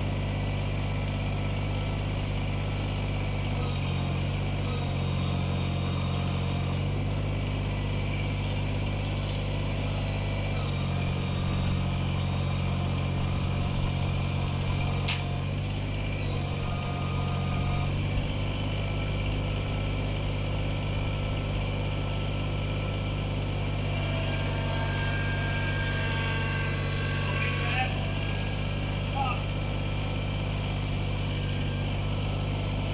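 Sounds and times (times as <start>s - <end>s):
diesel tractor engine idling: 0.0s - 32.9s.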